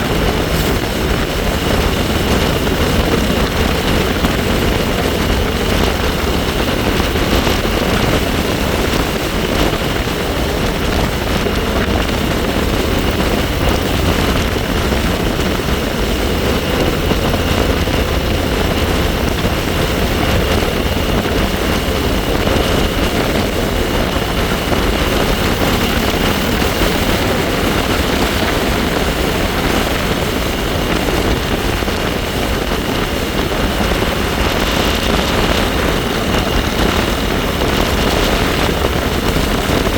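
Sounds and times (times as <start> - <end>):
high-pitched bike whine: 0.0 - 39.9
wind buffeting microphone: 0.0 - 39.9.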